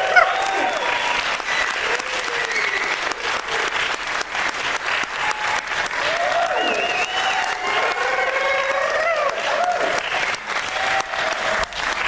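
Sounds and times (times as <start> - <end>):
audience applauding: 0.0 - 12.0
people cheering: 0.0 - 12.0.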